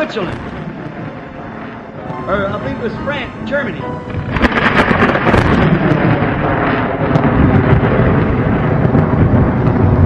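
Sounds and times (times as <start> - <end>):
rain: 0.0 - 10.0
rumbling thunder: 0.0 - 10.0
sharp crackles: 0.0 - 10.0.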